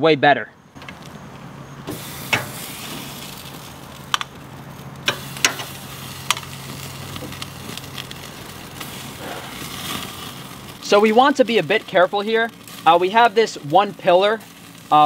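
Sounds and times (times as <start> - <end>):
steaks sizzling on grill: 0.8 - 15.0.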